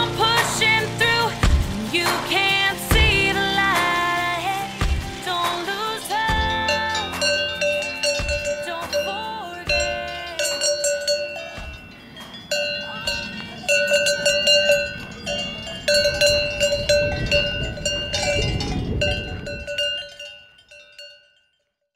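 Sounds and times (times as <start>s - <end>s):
cowbells clanging: 0.0s - 21.7s.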